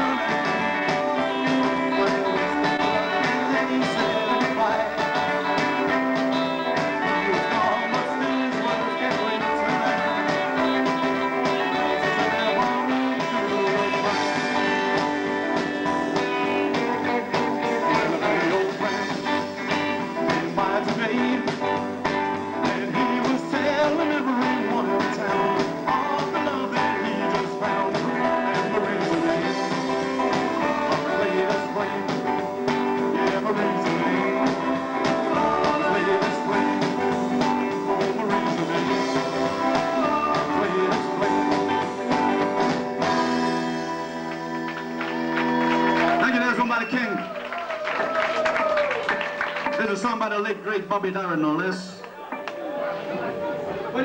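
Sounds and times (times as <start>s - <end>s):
person singing: 0.0s - 47.1s
rock and roll band playing: 0.0s - 54.0s.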